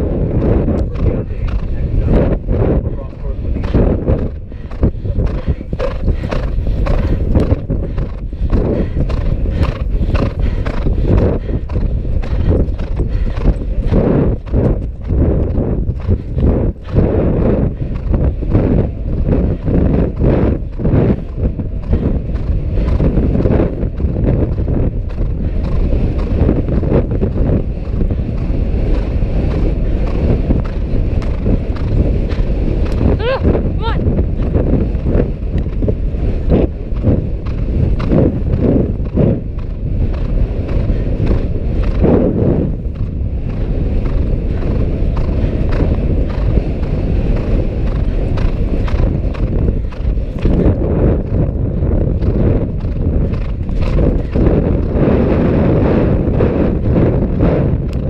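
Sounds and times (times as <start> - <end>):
wind buffeting microphone: 0.0 - 58.0
horse hoofbeats on grass: 0.1 - 33.2, 34.0 - 58.0.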